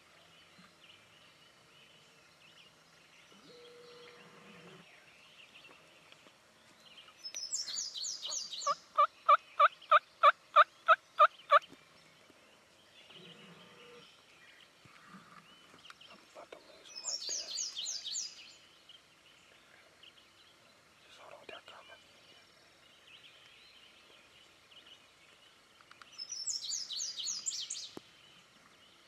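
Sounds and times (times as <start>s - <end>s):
songbird chirps: 0.0s - 29.0s.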